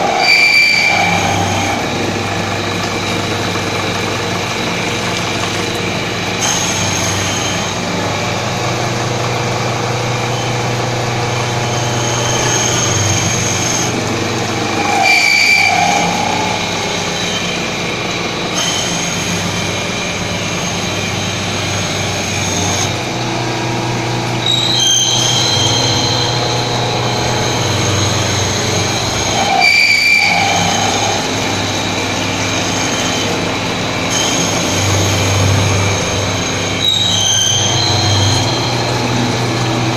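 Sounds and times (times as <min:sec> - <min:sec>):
high-pitched squealing: 0:00.0 - 0:39.9
milling machine cutting metal: 0:00.0 - 0:39.9.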